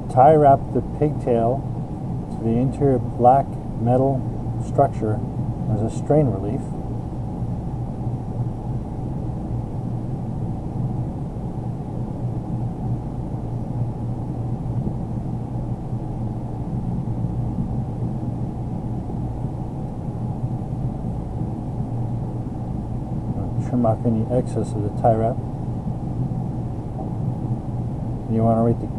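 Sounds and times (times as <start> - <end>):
low hum and rumble: 0.0 - 28.9.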